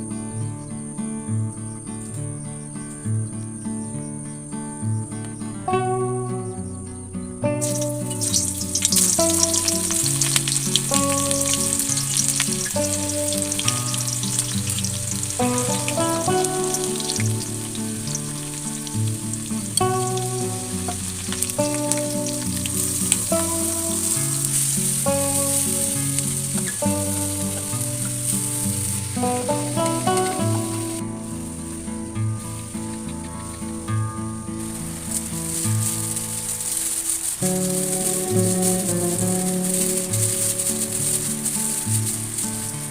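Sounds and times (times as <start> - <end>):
music with walking bass line: 1.4 - 42.9
food sizzling in hot oil: 7.6 - 33.6, 34.5 - 42.9.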